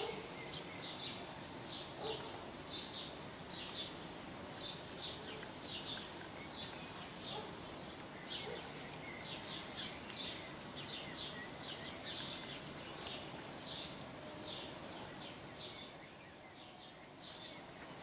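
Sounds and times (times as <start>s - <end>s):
faint steady noise: 0.0s - 18.0s.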